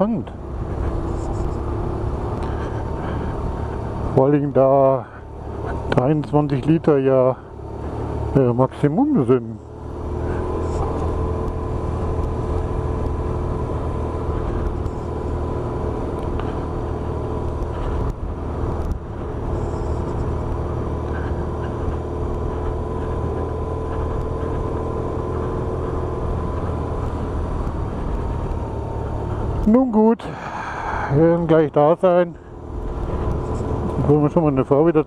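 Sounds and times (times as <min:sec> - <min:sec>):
motorcycle engine cruising: 0:00.0 - 0:35.0
wind and road noise: 0:00.0 - 0:35.0.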